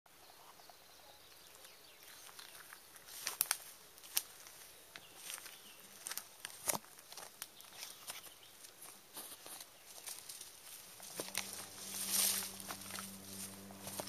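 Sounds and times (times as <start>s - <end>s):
footsteps crackling twigs and leaves: 1.3s - 14.0s.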